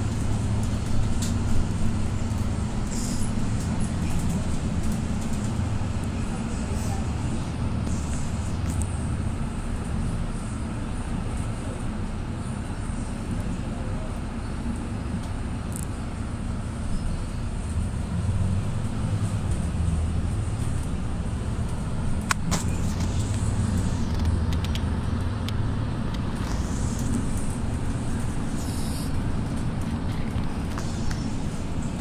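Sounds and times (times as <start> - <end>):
bus engine drone: 0.0 - 32.0
road noise: 0.0 - 32.0.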